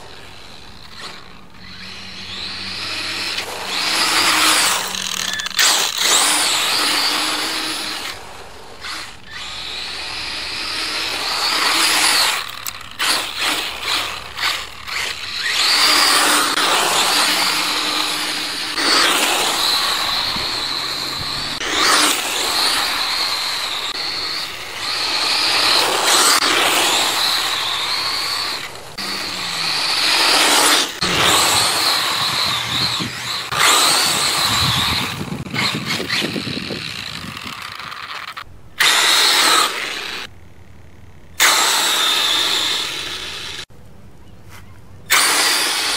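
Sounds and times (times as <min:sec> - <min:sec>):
rc car motor whine: 0:00.0 - 0:43.7, 0:45.1 - 0:45.9.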